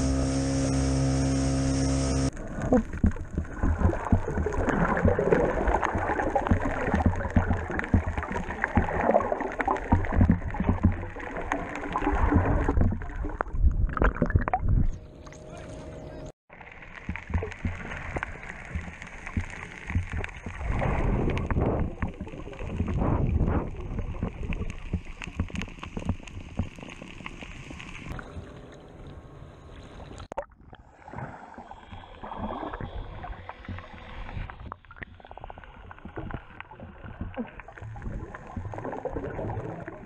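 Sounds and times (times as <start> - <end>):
muffled underwater sloshing: 0.0 - 40.0
water rushes: 0.0 - 40.0.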